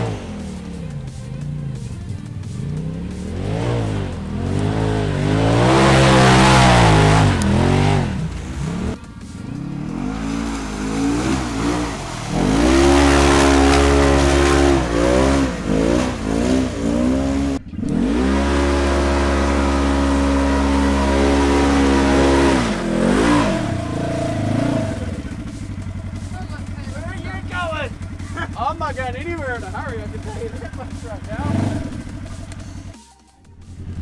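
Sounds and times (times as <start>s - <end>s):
utility vehicle engine revving: 0.0s - 33.0s, 33.6s - 34.0s.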